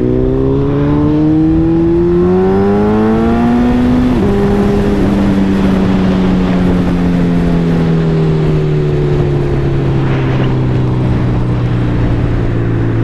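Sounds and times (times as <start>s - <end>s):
loud wind noise: 0.0s - 13.0s.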